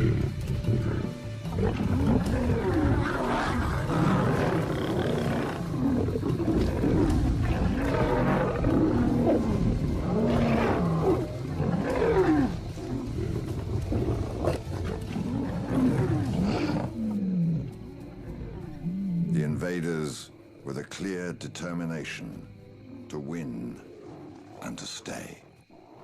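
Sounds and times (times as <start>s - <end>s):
lions growling and roaring: 0.0s - 20.1s, 22.8s - 26.0s.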